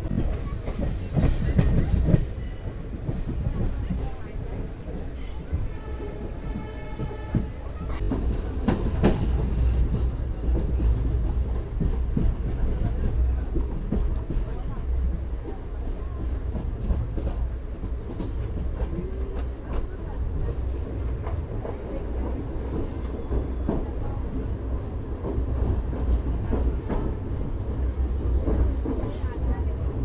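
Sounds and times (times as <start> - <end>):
train rumbling: 0.0 - 30.0.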